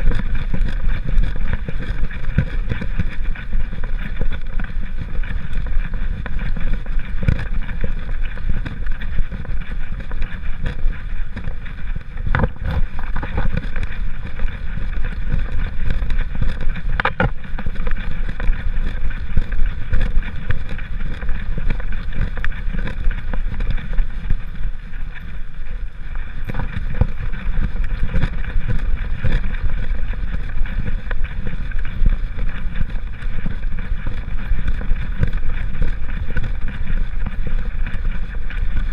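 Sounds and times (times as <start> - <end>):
camera jostling against harness: 0.0 - 38.9
wind on microphone: 0.0 - 38.9.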